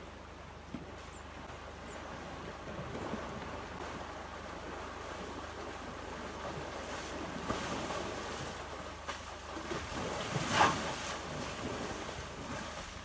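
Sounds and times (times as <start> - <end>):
water sloshing: 0.0 - 13.0
water splash: 2.2 - 13.0.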